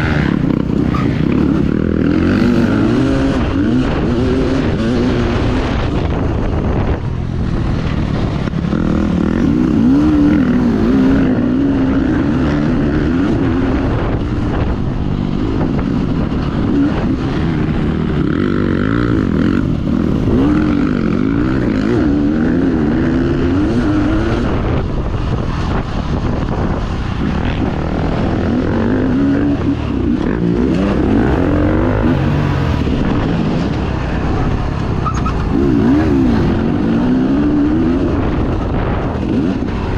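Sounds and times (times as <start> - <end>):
dirt bike engine revving: 0.0 - 6.9, 7.6 - 14.7, 15.3 - 24.9, 25.6 - 39.9.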